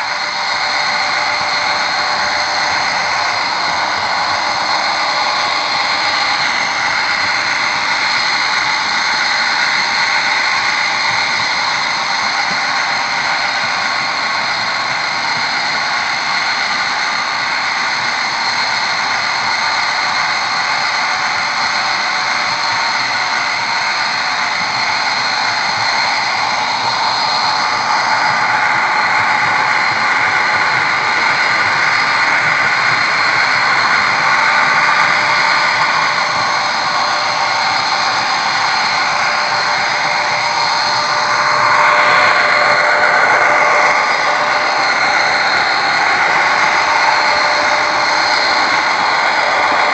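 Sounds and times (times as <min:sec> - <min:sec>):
model train running: 0:00.0 - 0:49.9.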